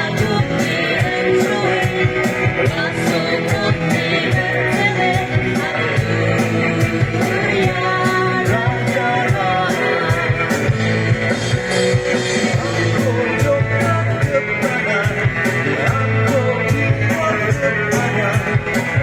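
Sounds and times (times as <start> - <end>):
drum kit beat with cymbals: 0.0 - 19.0
guitar: 0.0 - 19.0
person singing: 0.0 - 19.0.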